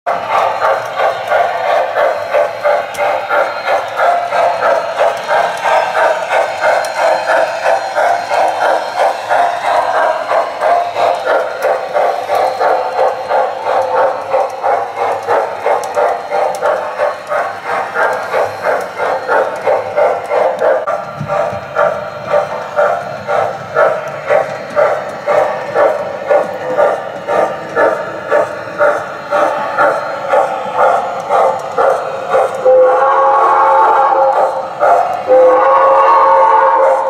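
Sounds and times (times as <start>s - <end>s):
model train wheels rumbling: 0.1s - 37.0s.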